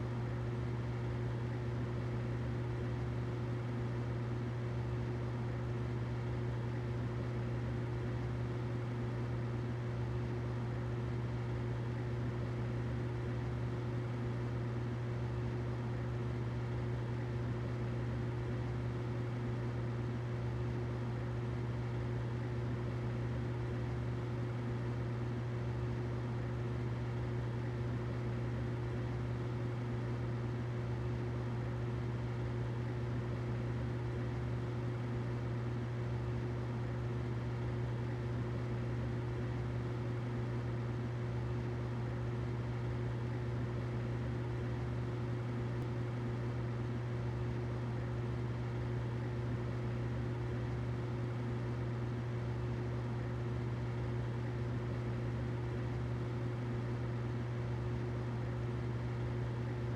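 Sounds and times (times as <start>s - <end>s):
humidifier humming: 0.0s - 59.9s.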